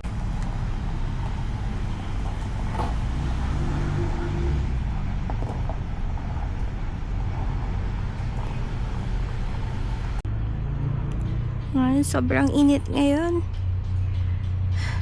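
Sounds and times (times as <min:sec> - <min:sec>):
road traffic rumble: 0:00.0 - 0:15.0
vehicle engines running close: 0:00.0 - 0:15.0.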